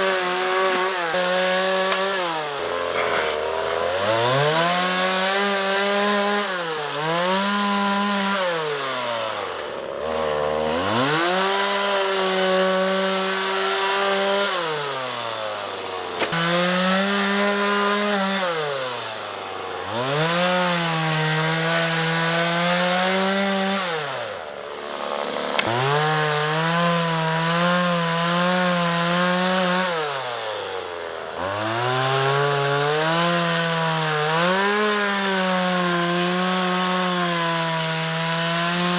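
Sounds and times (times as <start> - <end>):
chainsaw revving and cutting: 0.0 - 38.9.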